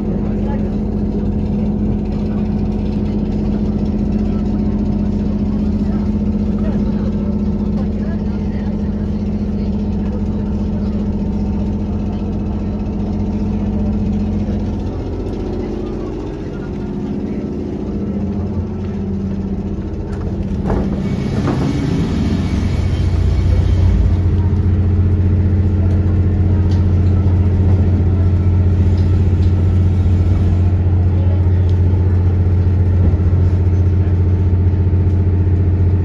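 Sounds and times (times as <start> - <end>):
diesel railcar engine humming: 0.0 - 36.0
engine rattling: 0.0 - 36.0.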